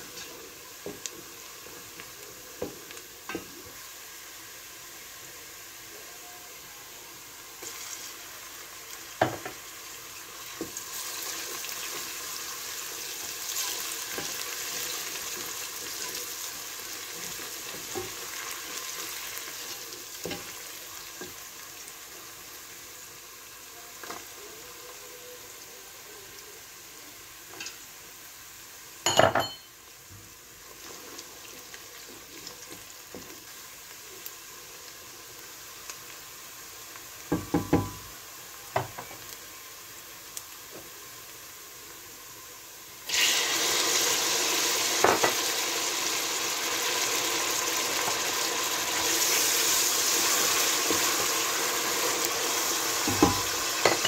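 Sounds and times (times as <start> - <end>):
onions sizzling in oil: 0.0 - 54.0.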